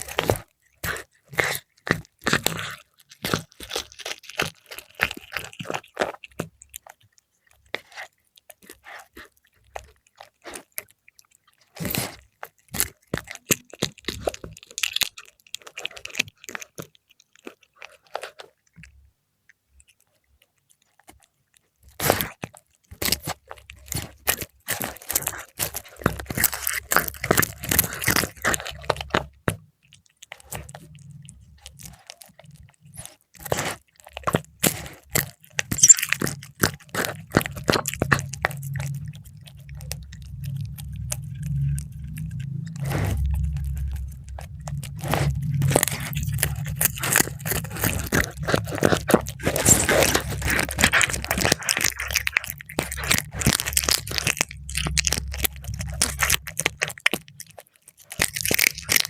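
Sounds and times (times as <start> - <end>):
cat chewing crunchy food: 0.0 - 59.0.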